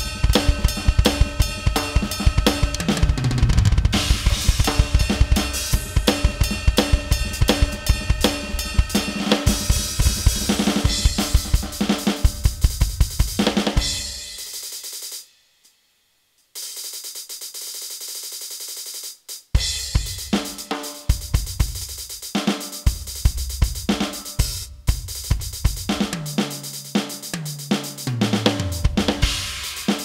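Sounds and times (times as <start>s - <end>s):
electronic drum kit funk groove: 0.0s - 15.2s, 16.6s - 30.0s
fast even drum strokes: 0.0s - 15.2s, 16.6s - 30.0s.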